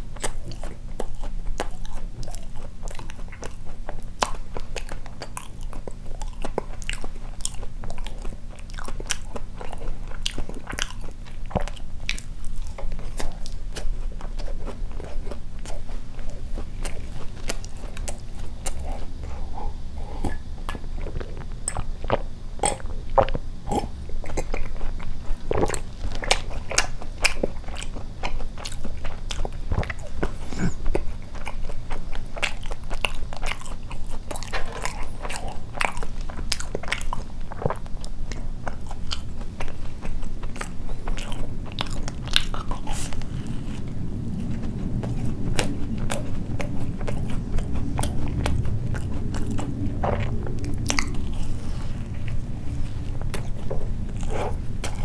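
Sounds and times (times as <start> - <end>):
chewing and wet mouth sounds: 0.0 - 55.0
steady low hum: 0.0 - 55.0.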